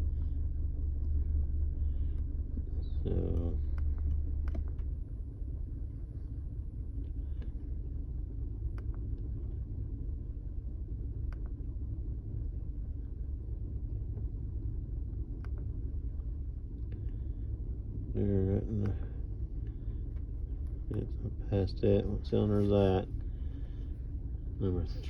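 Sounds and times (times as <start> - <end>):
car engine idling rough: 0.0 - 25.0
faint engine ticks: 0.0 - 25.0.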